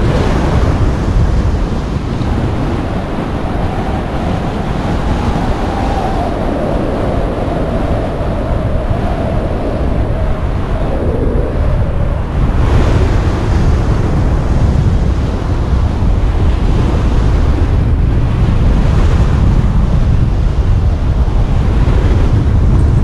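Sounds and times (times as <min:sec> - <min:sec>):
wind buffeting a microphone: 0:00.0 - 0:23.0.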